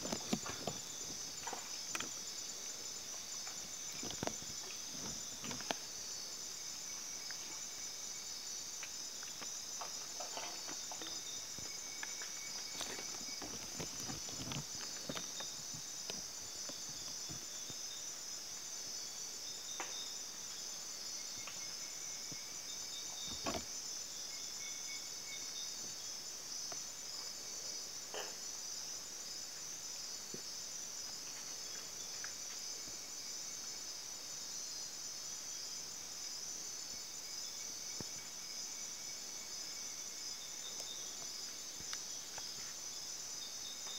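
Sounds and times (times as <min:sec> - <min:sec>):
faint insect chirping: 0:00.0 - 0:43.9
high-pitched insect trill: 0:00.0 - 0:43.9.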